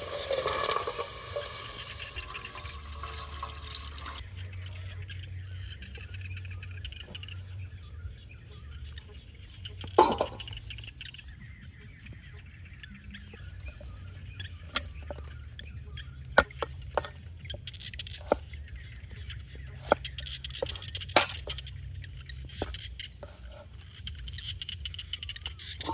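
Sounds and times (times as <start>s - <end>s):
faint birdsong: 0.0s - 25.9s.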